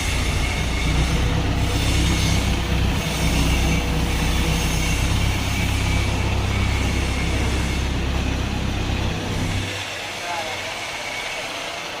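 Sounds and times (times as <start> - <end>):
wood chipper running: 0.0 - 10.8.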